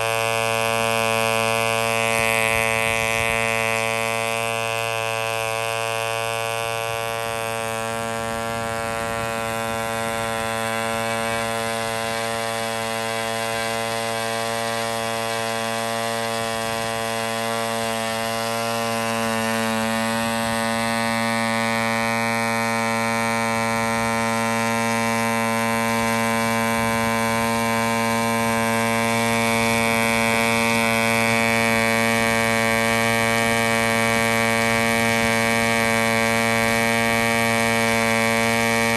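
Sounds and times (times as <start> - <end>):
model engine buzzing: 0.0 - 38.9.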